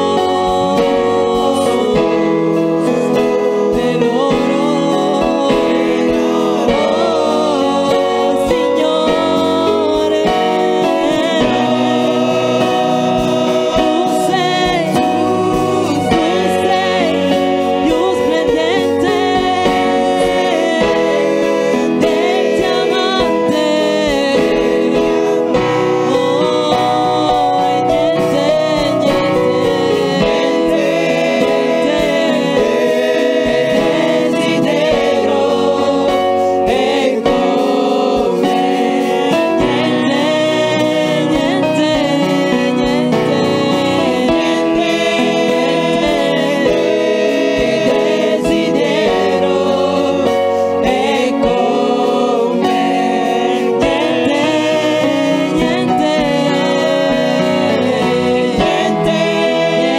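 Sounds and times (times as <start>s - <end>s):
choir singing gospel: 0.0s - 59.9s
sustained instrumental chords: 0.0s - 59.9s.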